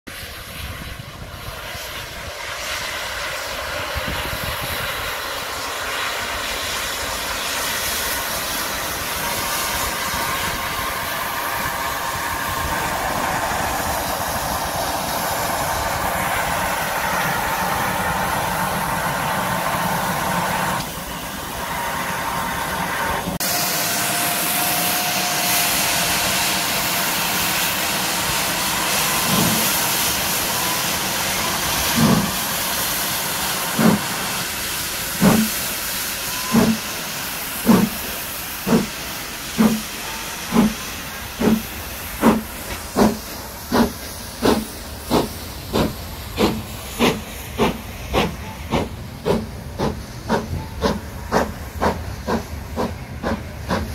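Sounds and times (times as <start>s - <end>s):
steam hissing: 0.1s - 53.9s
train rumbling and clattering on rails: 0.1s - 53.9s.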